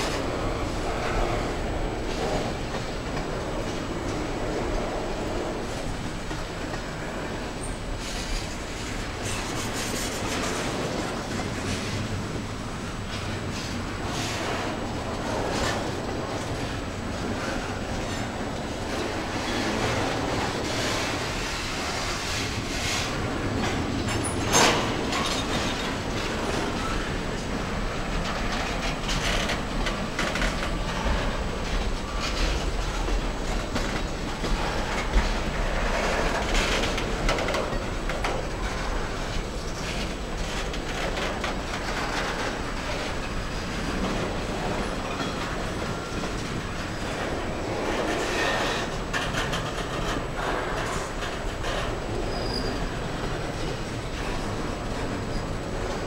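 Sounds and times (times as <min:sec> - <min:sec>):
sharp clack of train wheels: 0:00.0 - 0:56.0
train wheels rumbling on rails: 0:00.0 - 0:56.0.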